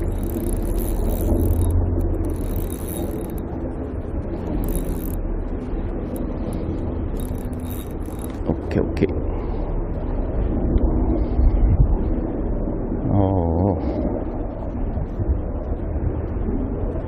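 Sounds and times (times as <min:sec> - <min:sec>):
rushing noise with low rumble: 0:00.0 - 0:17.0.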